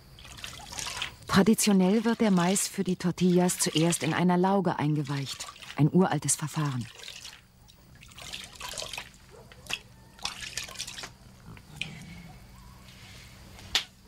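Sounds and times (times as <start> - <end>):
water dripping and trickling: 0.2 - 11.7.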